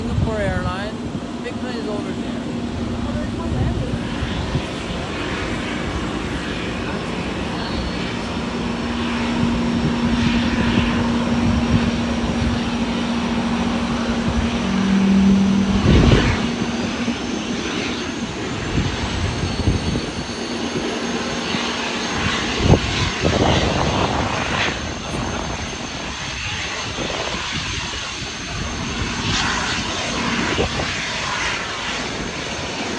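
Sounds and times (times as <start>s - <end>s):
low steady hum: 0.0s - 27.8s
jet engines running: 0.0s - 32.9s.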